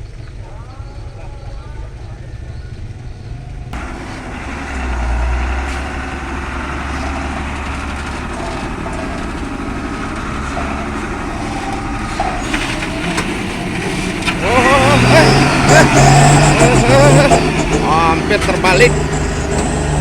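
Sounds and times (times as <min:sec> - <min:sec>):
road noise: 0:00.0 - 0:20.0
truck diesel engine rumbling: 0:00.0 - 0:20.0.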